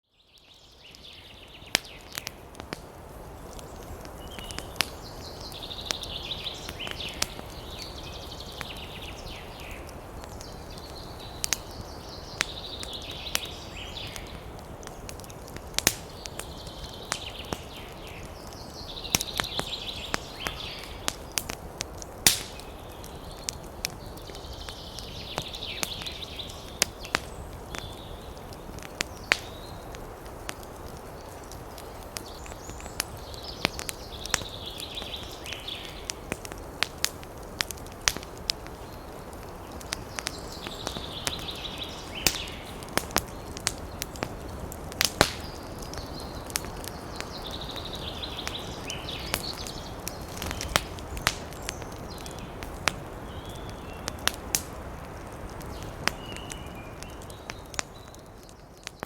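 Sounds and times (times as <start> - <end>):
wood fire crackling: 0.2 - 59.0.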